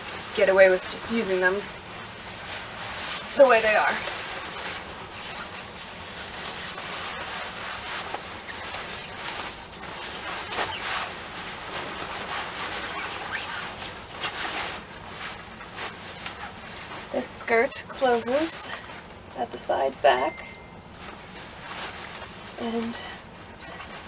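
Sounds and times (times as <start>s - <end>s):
taffeta skirt rustling: 0.0s - 24.0s.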